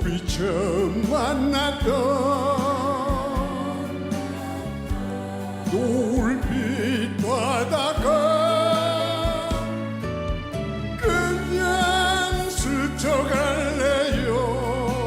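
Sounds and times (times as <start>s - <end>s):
person singing with vibrato: 0.0s - 9.9s, 11.0s - 15.0s
backing band: 0.0s - 15.0s.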